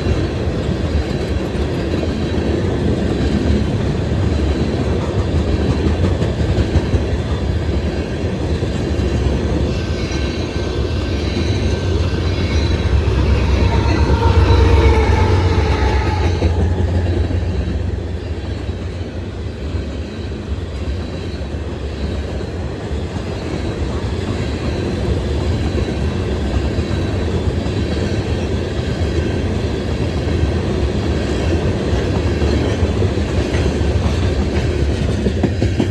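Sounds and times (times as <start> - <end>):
freight train rumbling past: 0.0 - 35.9.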